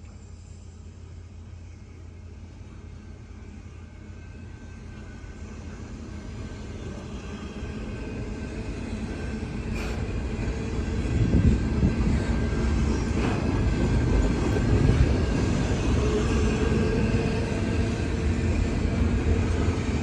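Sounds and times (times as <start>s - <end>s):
diesel train engine rumble: 0.0s - 20.0s.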